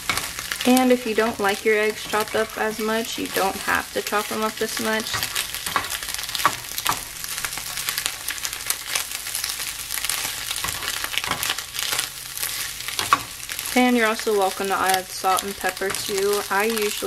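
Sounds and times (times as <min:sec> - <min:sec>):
spatula scraping a pan: 0:00.0 - 0:14.6, 0:15.2 - 0:17.0
eggs sizzling in a frying pan: 0:00.0 - 0:17.0.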